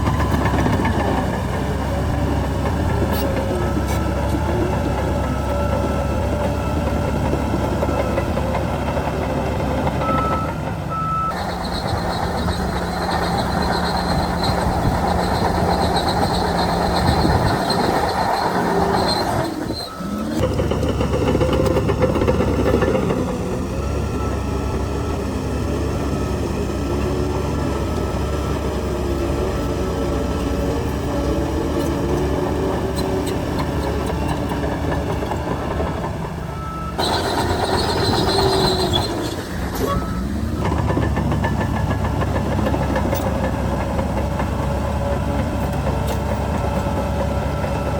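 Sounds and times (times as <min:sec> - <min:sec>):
diesel machinery engine: 0:00.0 - 0:47.9.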